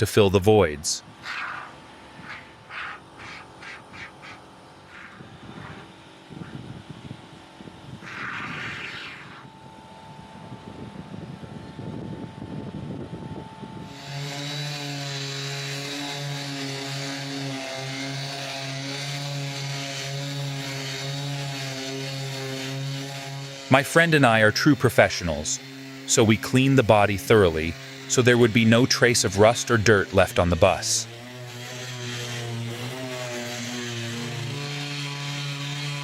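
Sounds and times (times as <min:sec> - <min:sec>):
machine motor drone: 0:01.0 - 0:36.0.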